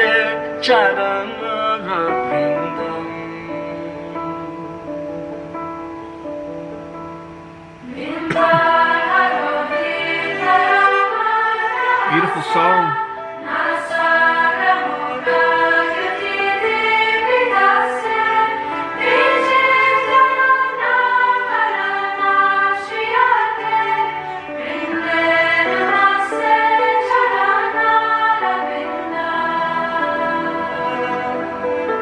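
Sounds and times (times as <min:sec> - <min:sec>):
choir singing a hymn: 0:00.0 - 0:05.8, 0:07.8 - 0:32.0.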